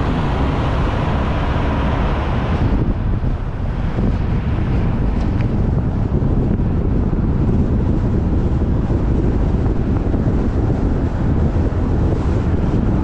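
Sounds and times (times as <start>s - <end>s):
road and wind noise: 0.0s - 13.0s
wind buffeting microphone: 0.0s - 13.0s.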